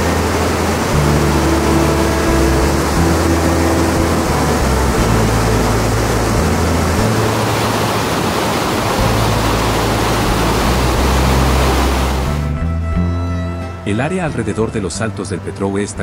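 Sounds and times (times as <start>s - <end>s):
rushing water roar: 0.0s - 16.0s.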